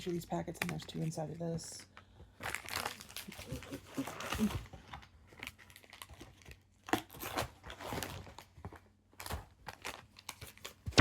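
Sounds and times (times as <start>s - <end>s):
plastic wrappers crinkling: 0.0s - 1.8s, 2.4s - 10.8s.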